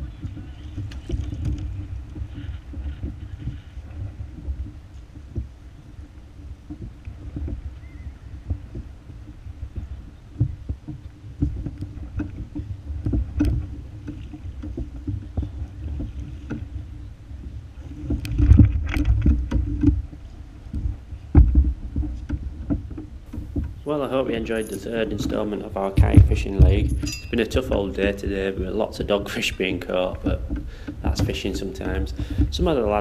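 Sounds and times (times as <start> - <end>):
low rumble of water: 0.0 - 33.0
rope and hands knocking on hull: 0.0 - 33.0.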